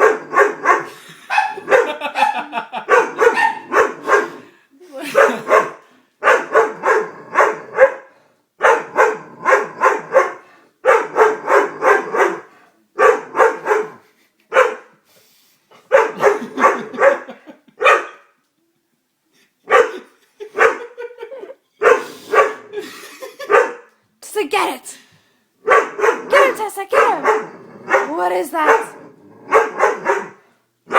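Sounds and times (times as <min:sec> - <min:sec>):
dog barking: 0:00.0 - 0:14.9, 0:15.9 - 0:18.3, 0:19.7 - 0:21.0, 0:21.8 - 0:22.7, 0:23.5 - 0:23.9, 0:25.6 - 0:30.9.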